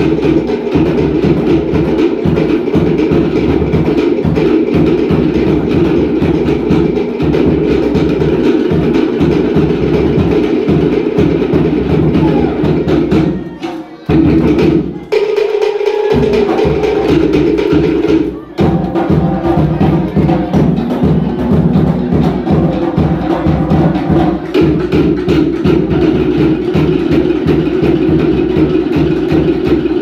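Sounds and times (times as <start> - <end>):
slit log drums playing: 0.0 - 30.0.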